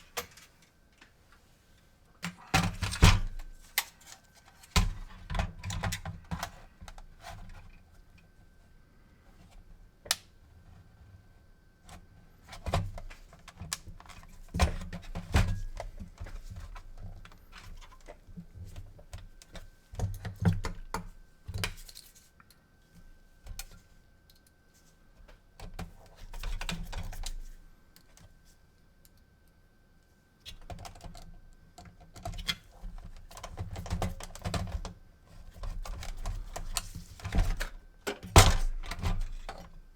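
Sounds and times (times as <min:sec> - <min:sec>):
faint high hum: 0:00.0 - 0:39.9.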